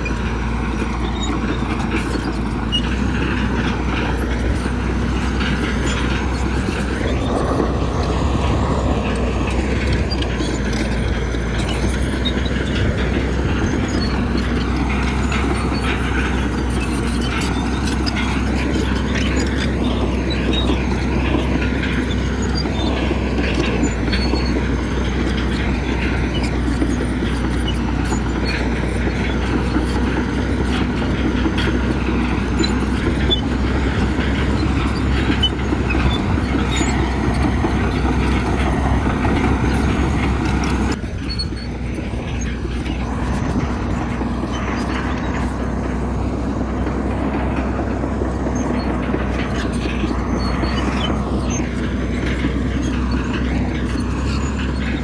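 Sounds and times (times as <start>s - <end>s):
bulldozer diesel engine: 0.0s - 55.0s
steel tracks clanking: 0.0s - 55.0s.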